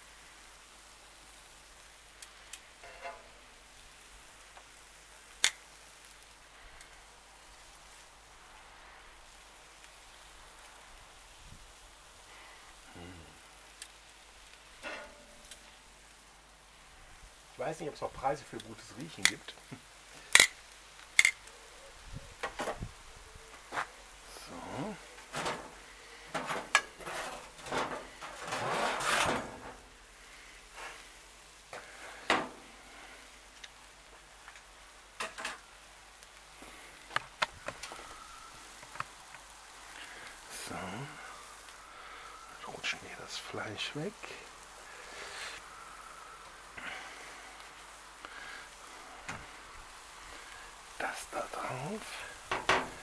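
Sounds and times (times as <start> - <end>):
chicken sizzling in a pan: 0.0 - 28.5, 29.4 - 53.0
rustling hiss: 0.0 - 53.0.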